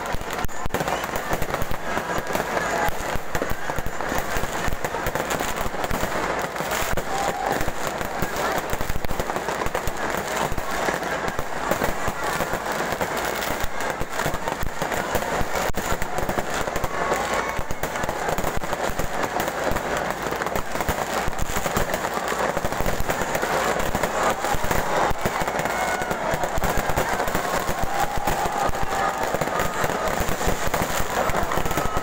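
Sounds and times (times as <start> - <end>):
fireworks and firecrackers popping: 0.0 - 32.0.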